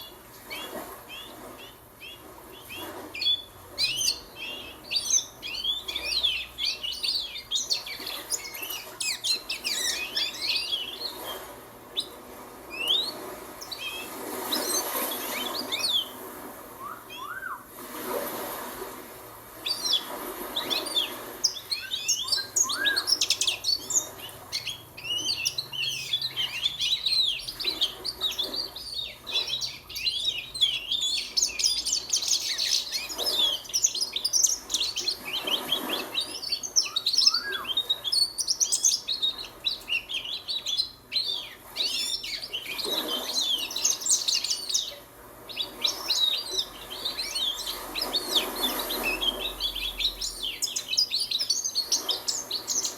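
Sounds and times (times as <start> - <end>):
goldfinch twittering and chirping: 0.0 - 16.2, 16.8 - 17.7, 19.6 - 52.9.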